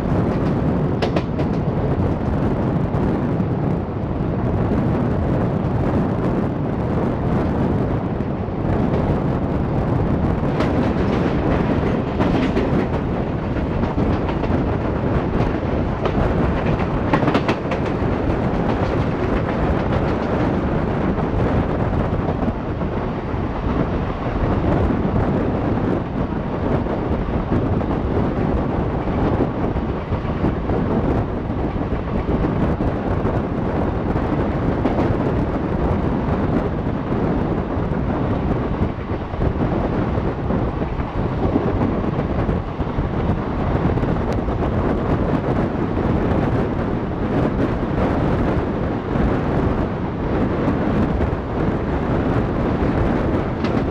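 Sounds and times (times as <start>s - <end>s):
train wheels rumbling on track: 0.0s - 53.9s
wind buffeting microphone: 0.0s - 53.9s.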